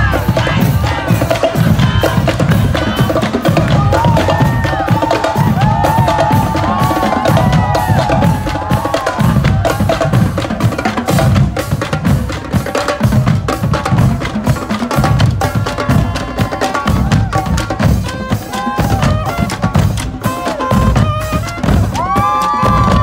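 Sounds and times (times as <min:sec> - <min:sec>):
bass drum beats: 0:00.0 - 0:23.0.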